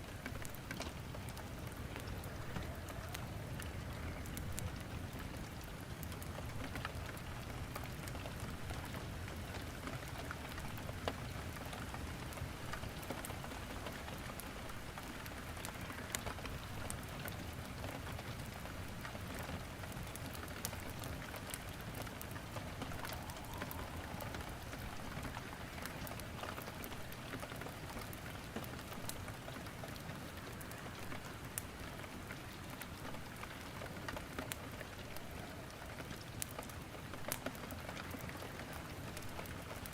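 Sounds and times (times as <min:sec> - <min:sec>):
steady rain falling: 0:00.0 - 0:39.9
wood crackling in fireplace: 0:00.0 - 0:39.9.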